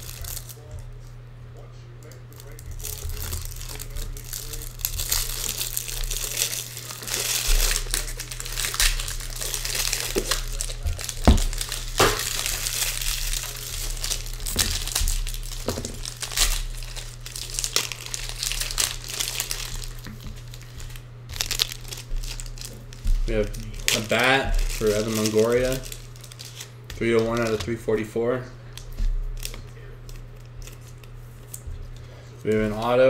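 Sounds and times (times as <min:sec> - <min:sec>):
foil wrappers crinkling: 0:00.0 - 0:33.0.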